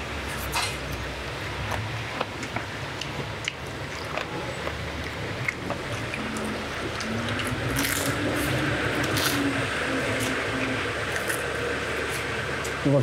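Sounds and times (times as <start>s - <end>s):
wet chewing: 1.6s - 12.8s
crunching fried chicken: 2.1s - 12.8s.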